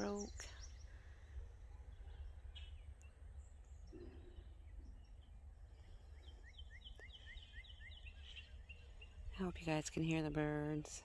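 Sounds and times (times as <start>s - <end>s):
faint songbirds chirping: 0.0s - 11.0s.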